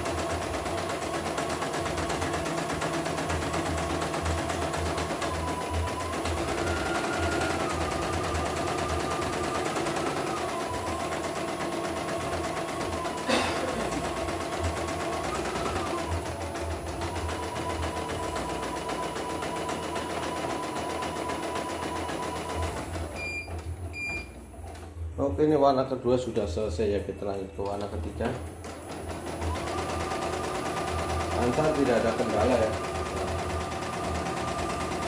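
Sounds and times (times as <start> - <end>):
embroidery machine stitching: 0.0 - 24.8, 27.8 - 35.0.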